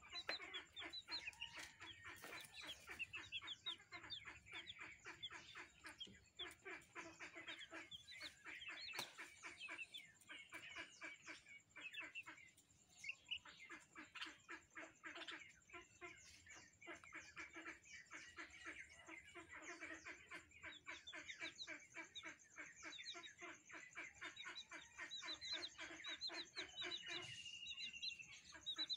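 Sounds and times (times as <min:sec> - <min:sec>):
chicks cheeping: 0:00.0 - 0:28.9.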